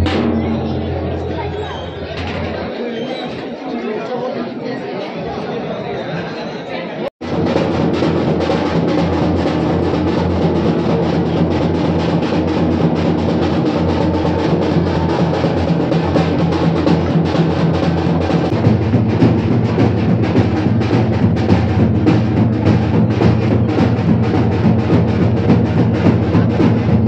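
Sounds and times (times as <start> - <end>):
rapid continuous drumming: 0.0 - 2.8, 7.2 - 27.0.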